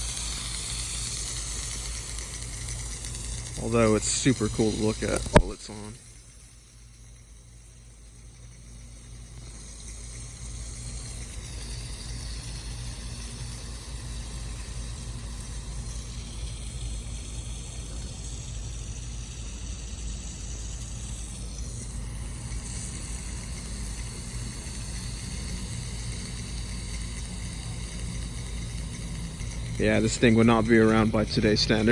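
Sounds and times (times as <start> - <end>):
rotary sprinkler spraying water: 0.0 - 31.9.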